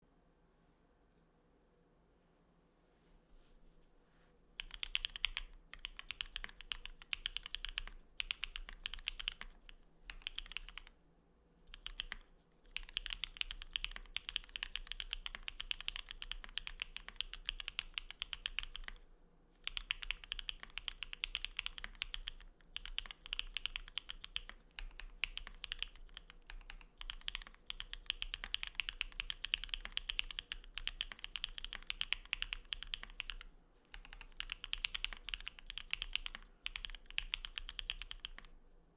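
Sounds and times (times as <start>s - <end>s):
mechanical keyboard typing: 4.6s - 11.0s, 11.7s - 19.0s, 19.6s - 38.6s.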